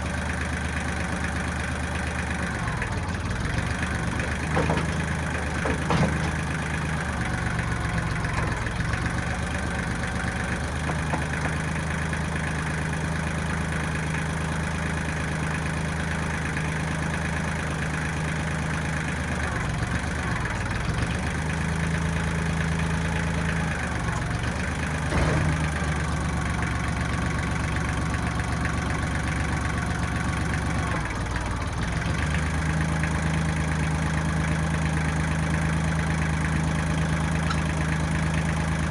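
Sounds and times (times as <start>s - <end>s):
backhoe diesel engine running: 0.0s - 38.9s.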